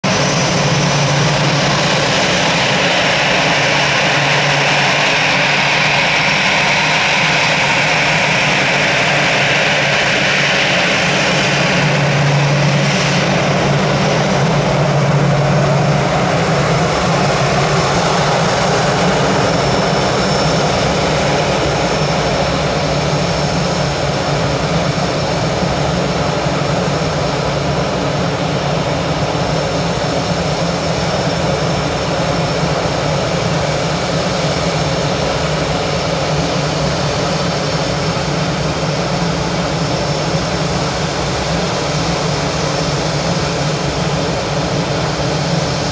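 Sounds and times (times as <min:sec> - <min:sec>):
high engine whine: 0:00.0 - 0:45.9
jet engines running: 0:00.0 - 0:45.9.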